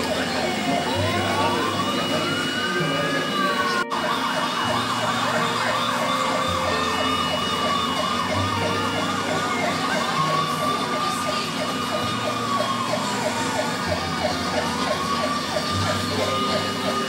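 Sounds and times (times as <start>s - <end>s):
emergency siren: 0.0s - 17.0s.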